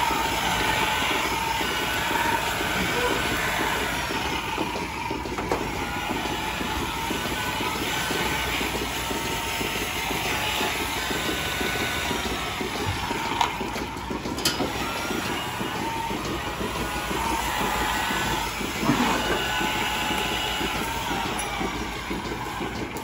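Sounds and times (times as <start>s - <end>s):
mechanical running noise: 0.0s - 23.0s.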